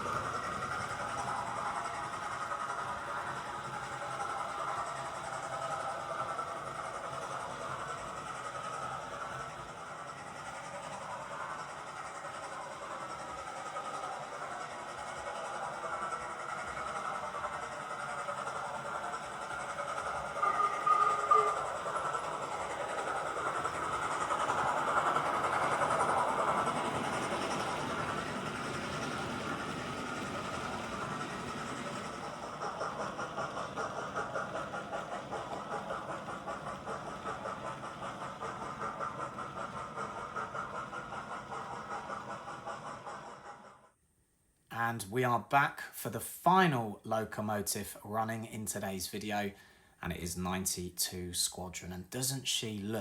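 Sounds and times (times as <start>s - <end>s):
model train running on track: 0.0s - 53.0s.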